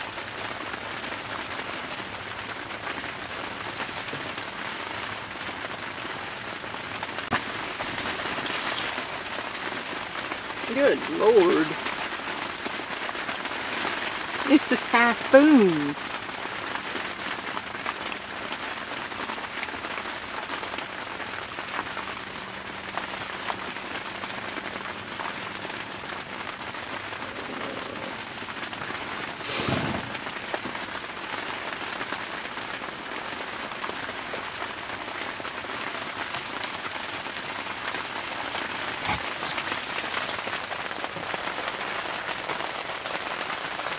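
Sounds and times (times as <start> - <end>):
heavy rain on fabric: 0.0 - 43.9.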